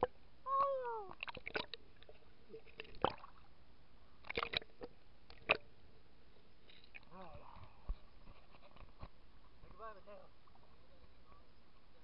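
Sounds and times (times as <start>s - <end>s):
water sloshing and gurgling: 0.0s - 12.0s.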